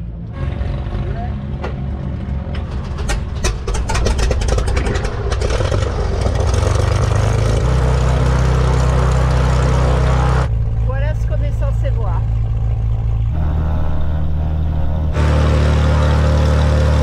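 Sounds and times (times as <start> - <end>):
plane engine starting up: 2.5 - 17.0.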